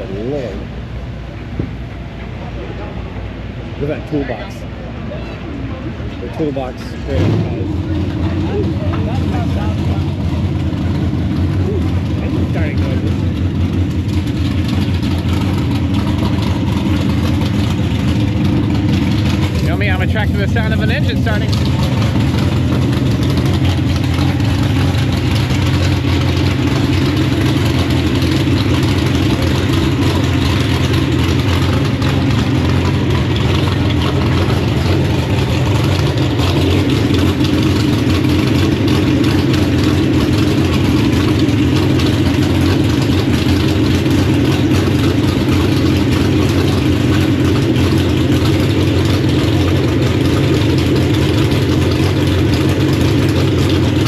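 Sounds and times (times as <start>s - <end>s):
drag racing engine idling: 0.0s - 54.0s.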